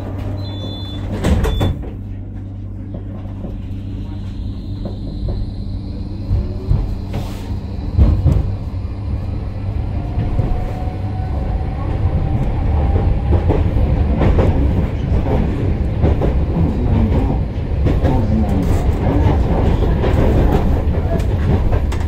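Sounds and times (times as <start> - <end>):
tram wheel-on-rail rumble: 0.0 - 22.0.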